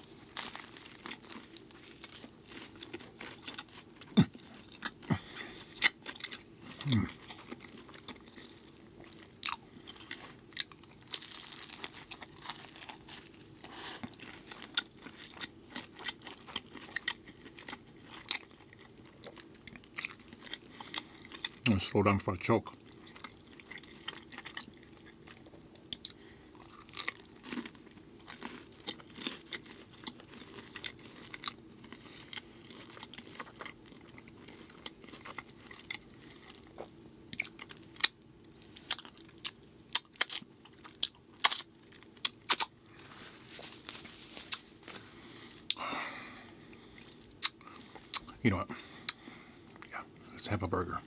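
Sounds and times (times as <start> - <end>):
chewing food close up: 0.0 - 45.8, 46.6 - 50.3.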